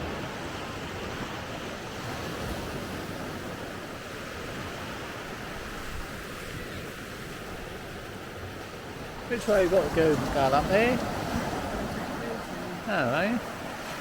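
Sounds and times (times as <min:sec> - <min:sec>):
sea surf washing onto beach: 0:00.0 - 0:14.0
wind: 0:00.0 - 0:14.0.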